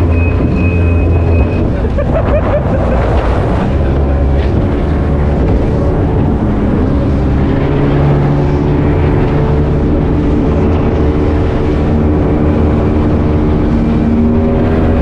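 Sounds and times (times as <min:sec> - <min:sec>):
powerboat engines rumbling: 0:00.0 - 0:15.0.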